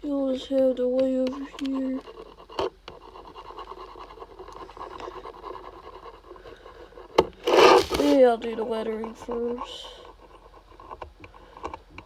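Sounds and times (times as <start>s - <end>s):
pen scratching on badge: 0.8s - 12.0s.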